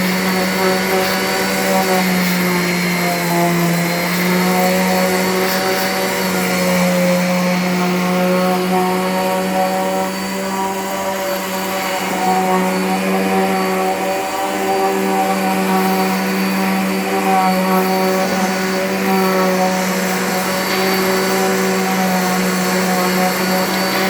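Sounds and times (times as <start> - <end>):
angle grinder sanding wood: 0.0 - 24.0.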